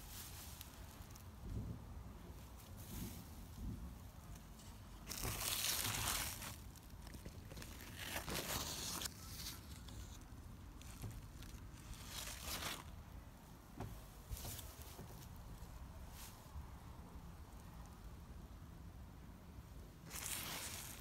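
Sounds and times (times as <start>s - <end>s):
leaves and grass rustling: 0.0s - 1.7s, 2.3s - 13.2s, 14.1s - 17.7s, 20.0s - 21.0s.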